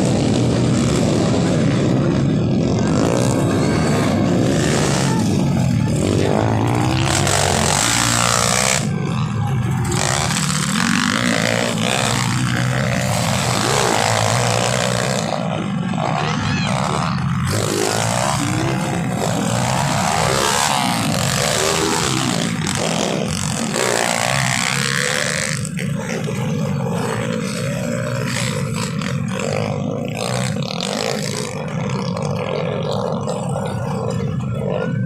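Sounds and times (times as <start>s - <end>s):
motorcycle engines revving: 0.0s - 35.0s.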